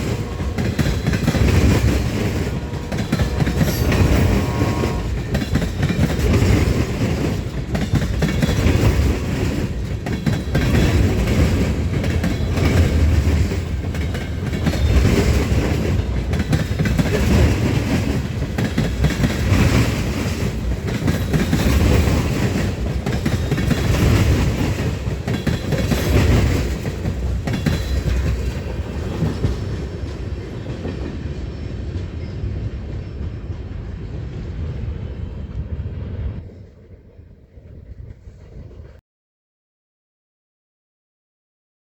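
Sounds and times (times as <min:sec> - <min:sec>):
train wheels clacking: 0:00.0 - 0:35.8.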